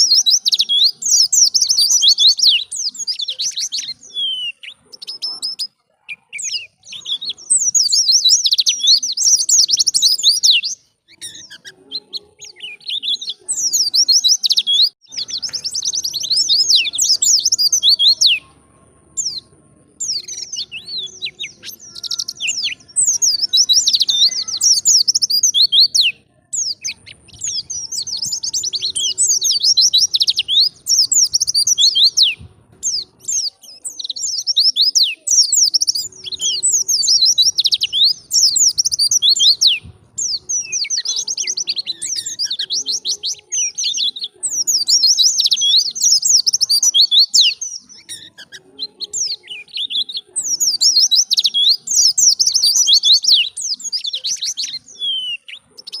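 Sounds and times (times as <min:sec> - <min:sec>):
bird twittering: 0:00.0 - 0:56.0.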